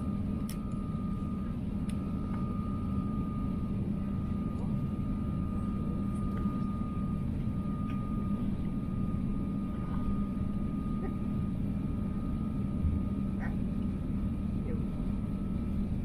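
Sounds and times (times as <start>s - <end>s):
aircraft cabin rumble and hum: 0.0s - 16.0s.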